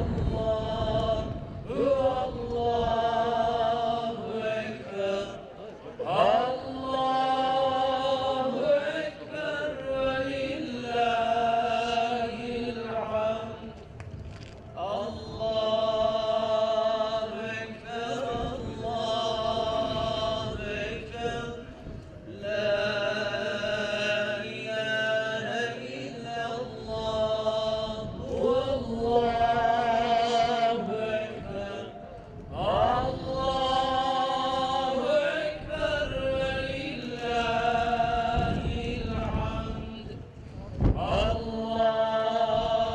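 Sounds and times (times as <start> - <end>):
man chanting religious recitation: 0.0 - 13.9, 14.8 - 42.9.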